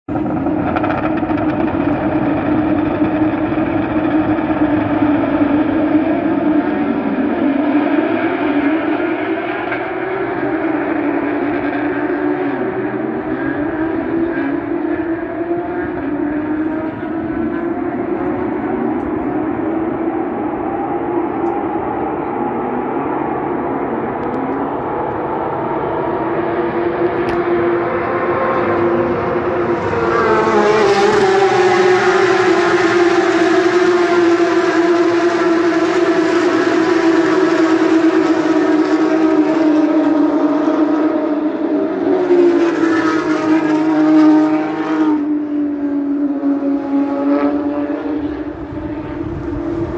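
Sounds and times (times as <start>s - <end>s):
race car engines at high revs: 0.1s - 49.9s.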